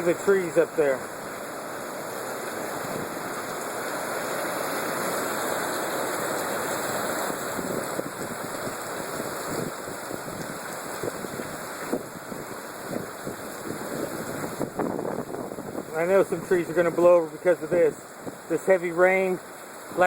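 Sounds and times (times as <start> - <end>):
gusting wind: 0.0 - 20.0
heavy rain: 0.0 - 20.0.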